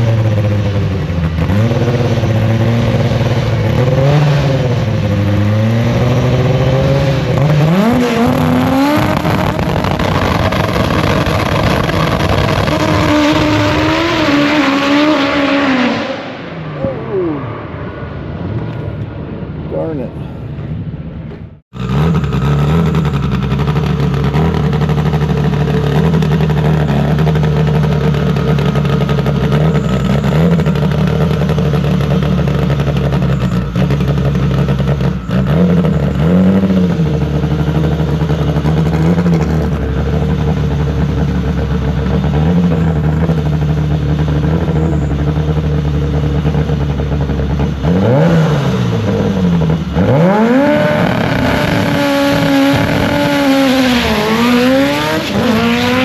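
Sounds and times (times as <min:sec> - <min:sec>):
car engine running: 0:00.0 - 0:15.2, 0:18.0 - 0:56.0
engine throttle blips: 0:00.0 - 0:19.7, 0:20.4 - 0:56.0.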